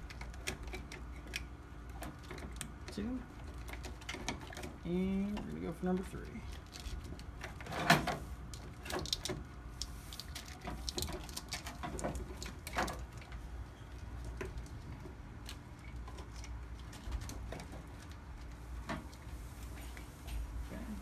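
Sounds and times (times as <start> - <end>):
wiring rustling: 0.0 - 21.0.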